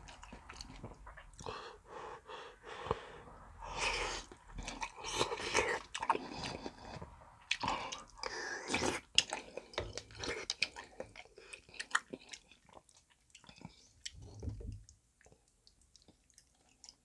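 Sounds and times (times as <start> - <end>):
close chewing mouth sounds: 0.0 - 1.6, 3.7 - 17.0.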